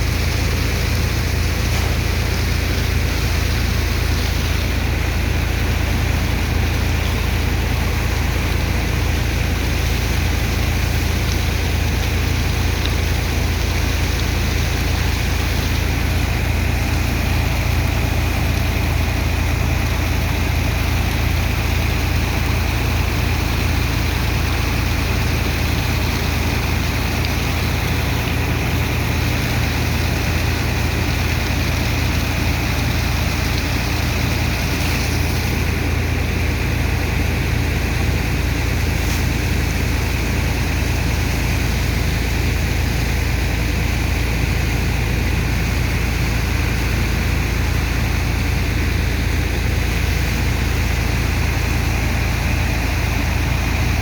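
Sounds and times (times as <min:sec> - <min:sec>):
heavy engine droning: 0:00.0 - 0:54.0
pump hissing: 0:00.0 - 0:54.0.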